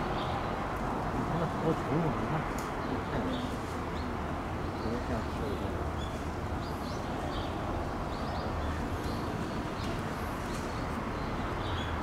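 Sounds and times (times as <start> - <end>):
small birds chirping: 0.0 - 12.0
steady outdoor hum: 0.0 - 12.0.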